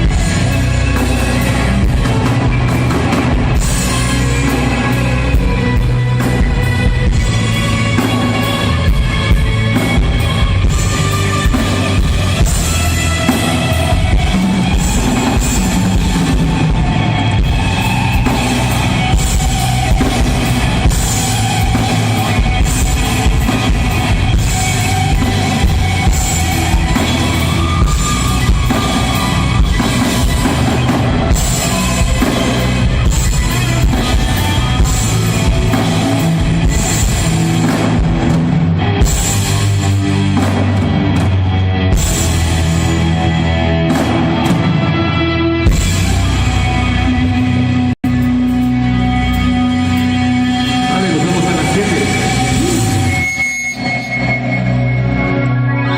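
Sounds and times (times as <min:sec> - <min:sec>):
drum kit beat: 0:00.0 - 0:44.9
loud electric guitars: 0:00.0 - 0:55.9.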